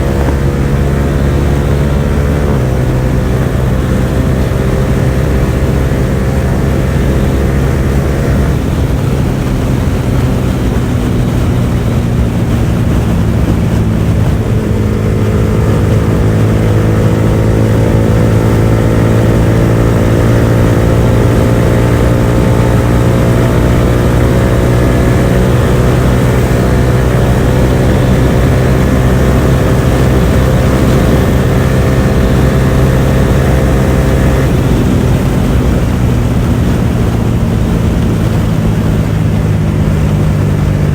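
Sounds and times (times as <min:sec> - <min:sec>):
motorcycle engine running hard: 0:00.0 - 0:40.9.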